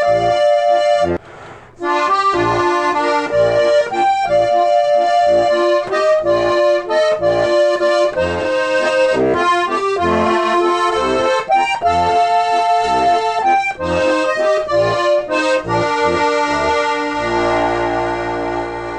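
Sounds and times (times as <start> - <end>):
accordion music: 0.0 - 18.9.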